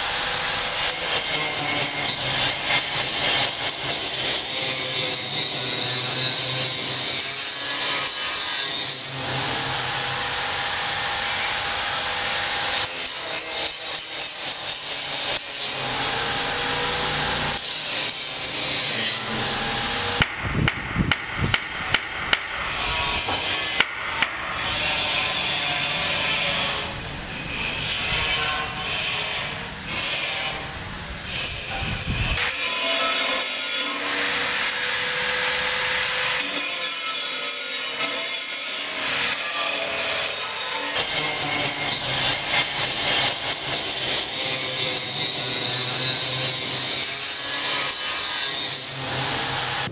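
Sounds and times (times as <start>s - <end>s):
hand saw cutting timber: 0.0s - 26.9s, 31.2s - 49.9s.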